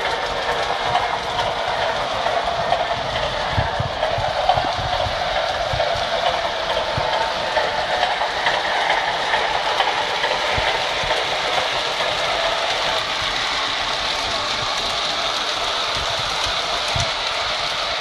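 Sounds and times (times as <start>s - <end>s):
model train motor hum and rattle: 0.0s - 18.0s.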